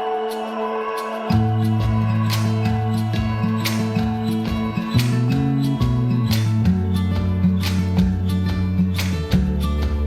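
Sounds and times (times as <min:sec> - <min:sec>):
guitar music with bass and beat: 0:01.2 - 0:10.0.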